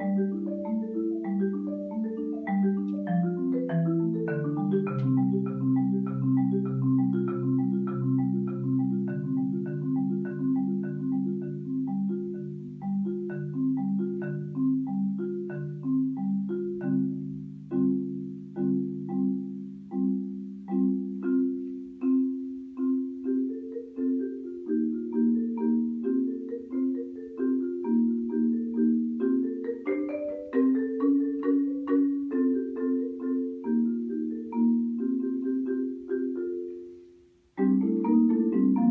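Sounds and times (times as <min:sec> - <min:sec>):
marimba played with mallets: 0:00.0 - 0:38.9.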